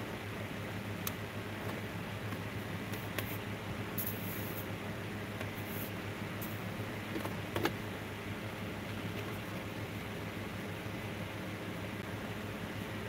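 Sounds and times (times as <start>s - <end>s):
fan or motor humming: 0.0s - 13.0s.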